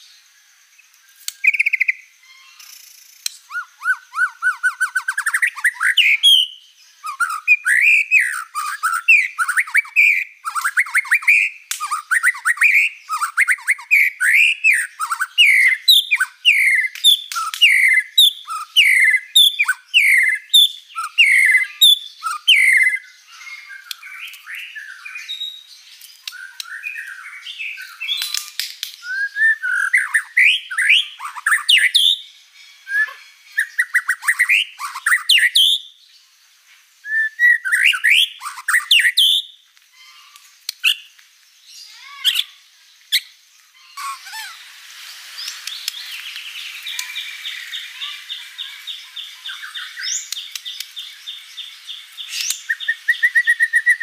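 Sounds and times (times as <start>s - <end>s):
bird singing whistled notes: 0.0s - 36.3s, 37.0s - 54.0s.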